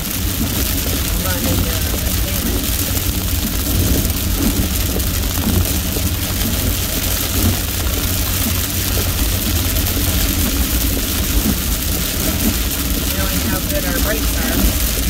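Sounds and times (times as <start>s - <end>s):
low engine and road rumble: 0.0s - 15.0s
rain on the windshield: 0.0s - 15.0s
tyres on a wet road: 0.0s - 15.0s.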